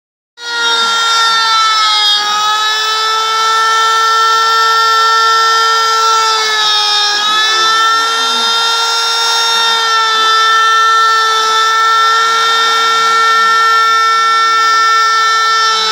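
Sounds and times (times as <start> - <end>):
router spindle milling plywood: 0.4 - 15.9.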